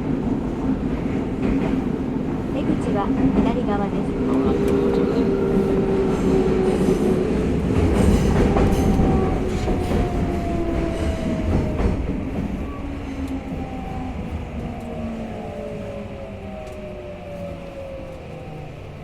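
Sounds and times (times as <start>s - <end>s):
train running on rails: 0.0s - 19.0s.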